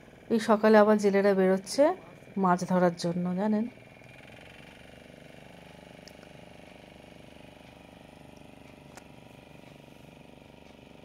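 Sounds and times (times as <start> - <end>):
distant boat engine humming: 0.0 - 11.0.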